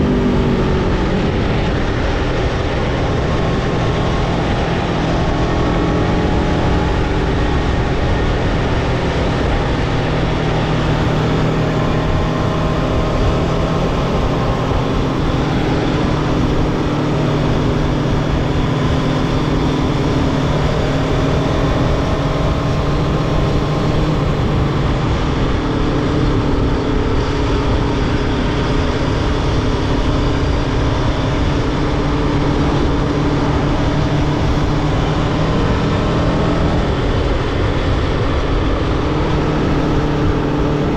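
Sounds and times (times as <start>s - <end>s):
constant rushing noise: 0.0s - 40.9s
motorcycle engine running: 0.0s - 40.9s.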